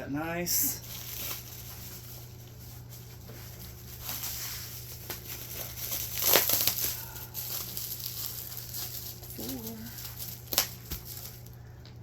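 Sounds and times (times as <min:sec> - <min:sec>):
cardboard and packing rustling: 0:00.8 - 0:11.6.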